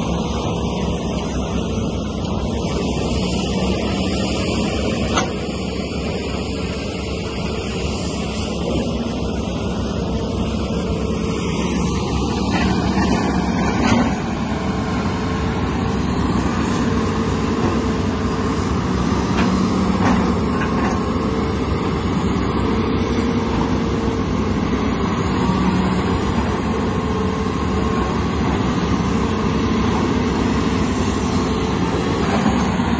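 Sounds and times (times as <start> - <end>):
excavator diesel engine running: 0.0 - 32.9
hydraulic whine: 0.0 - 32.9.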